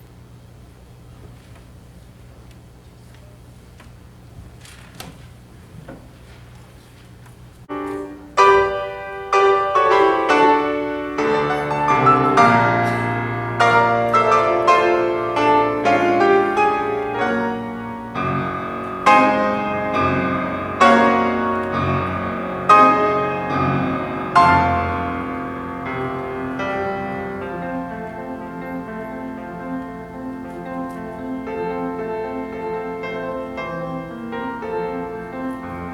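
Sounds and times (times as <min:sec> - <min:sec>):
slow piano piece: 0:00.0 - 0:35.9.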